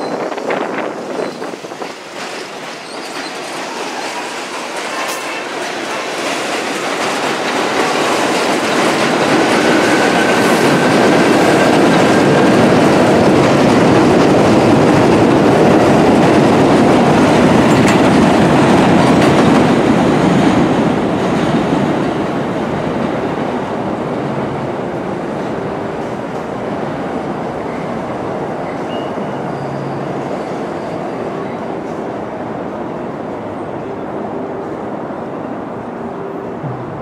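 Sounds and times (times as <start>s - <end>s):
subway train wheels clacking: 0.0s - 37.0s.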